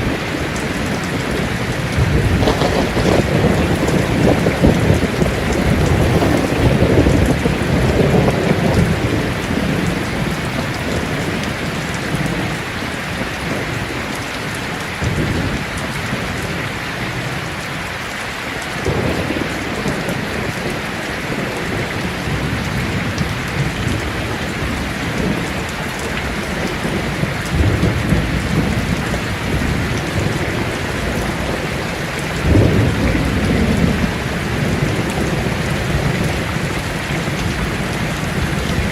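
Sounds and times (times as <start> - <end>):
thunder rumbling: 0.0 - 17.9, 18.6 - 38.9
heavy rain on a tin roof: 0.0 - 38.9.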